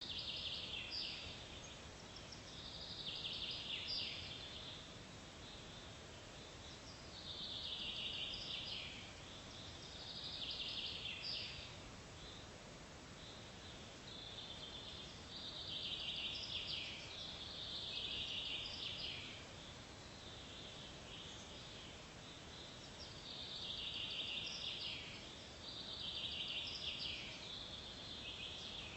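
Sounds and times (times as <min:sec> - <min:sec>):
outdoor ambience hiss: 0:00.0 - 0:28.9.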